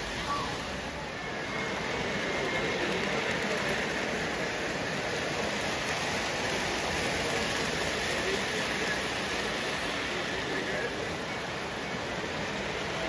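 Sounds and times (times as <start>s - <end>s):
model train wheels rumbling on rails: 0.0s - 13.0s.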